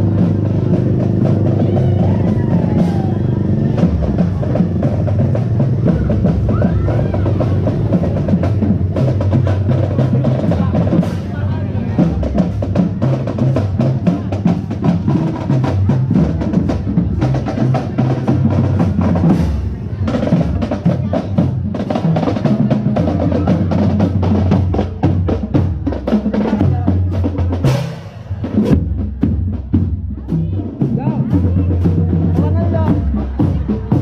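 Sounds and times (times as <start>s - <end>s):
bass drum: 0.0s - 34.0s
rapid snare drum rolls: 0.0s - 34.0s.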